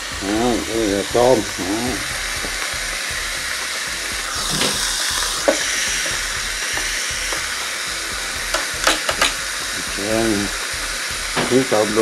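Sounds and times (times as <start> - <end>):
food sizzling in grill press: 0.0 - 12.0.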